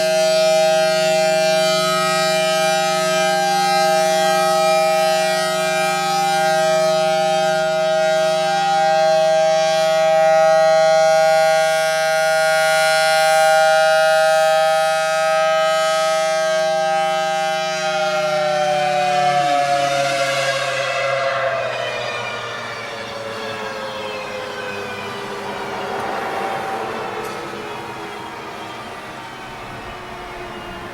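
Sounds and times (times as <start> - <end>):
tornado siren wailing: 0.0 - 30.9.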